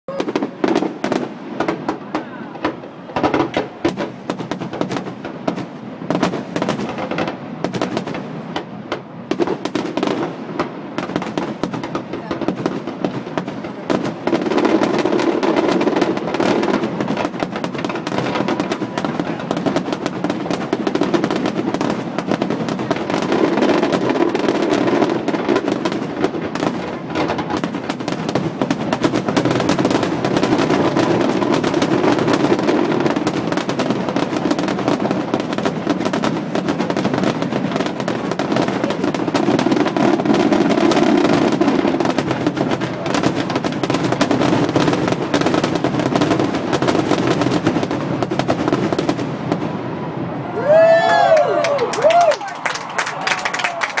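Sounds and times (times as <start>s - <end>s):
fireworks crackling and popping: 0.1s - 54.0s.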